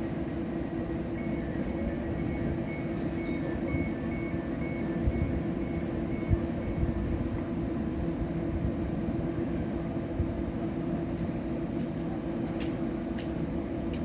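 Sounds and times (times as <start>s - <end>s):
train rumble and hum: 0.0s - 14.0s.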